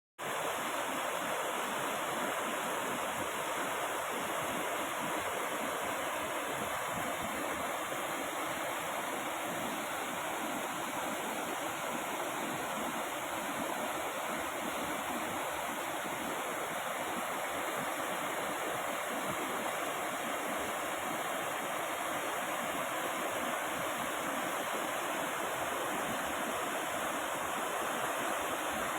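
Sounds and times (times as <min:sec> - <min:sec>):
waterfall rushing: 0:00.2 - 0:28.9.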